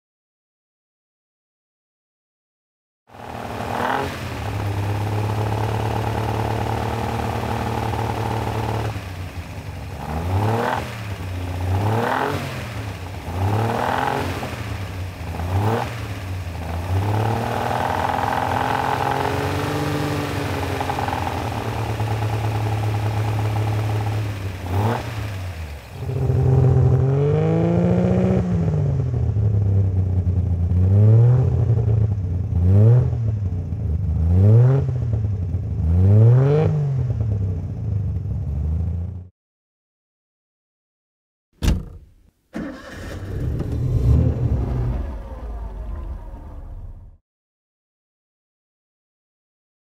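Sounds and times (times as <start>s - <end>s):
car engine revving: 3.2s - 39.2s, 42.6s - 47.2s.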